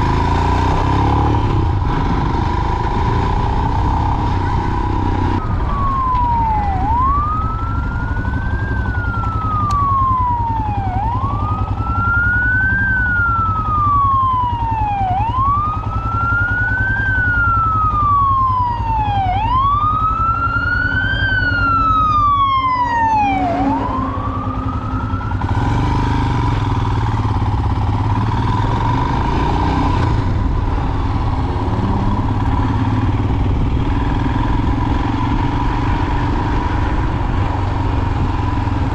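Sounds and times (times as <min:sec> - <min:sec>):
higher second siren: 0:00.0 - 0:38.9
siren wailing: 0:00.1 - 0:38.9
low engine rumble: 0:01.5 - 0:25.6, 0:26.4 - 0:38.9.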